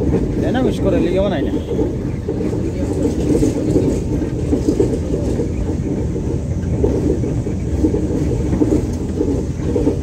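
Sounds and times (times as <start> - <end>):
vehicle driving rumble: 0.0 - 10.0.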